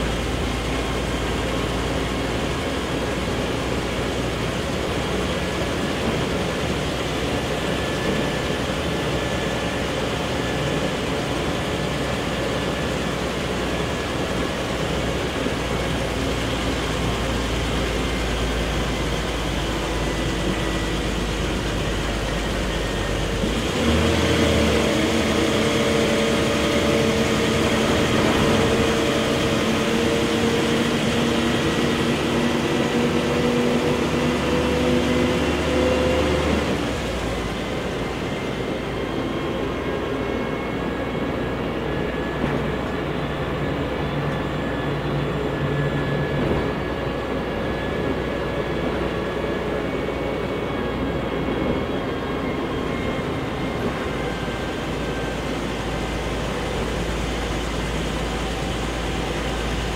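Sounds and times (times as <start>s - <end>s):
bus engine droning: 0.0s - 59.9s
road noise inside bus: 0.0s - 59.9s.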